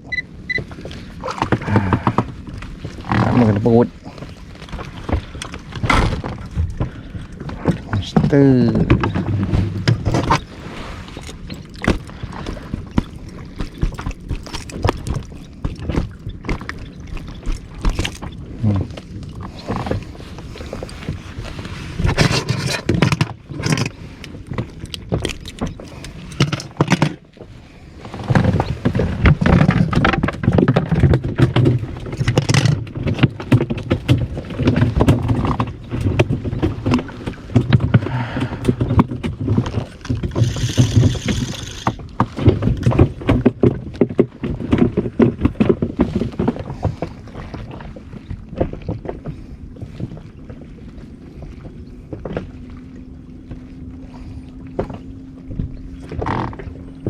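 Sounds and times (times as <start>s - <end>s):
knocks clicks and scrapes on boat: 0.0s - 57.0s
water rumbling against hull: 0.0s - 57.0s.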